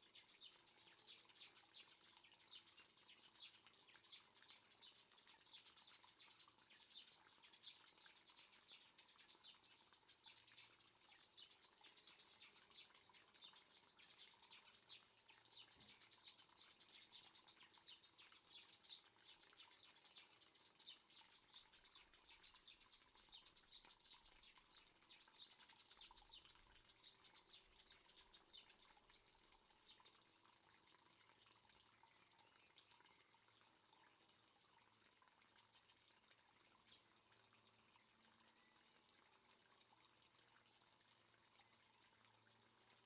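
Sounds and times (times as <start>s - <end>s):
fine patter of high ticks: 0.0s - 43.0s.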